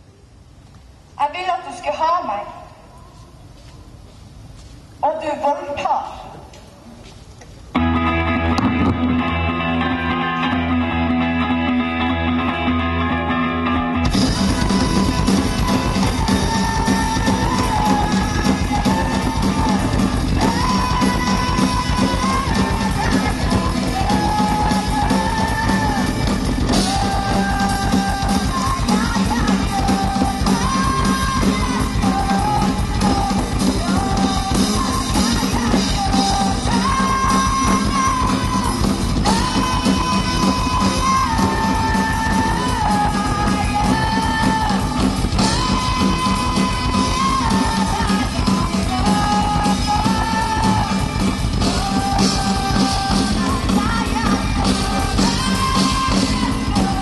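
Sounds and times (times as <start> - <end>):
live rock band playing: 7.7 - 57.0.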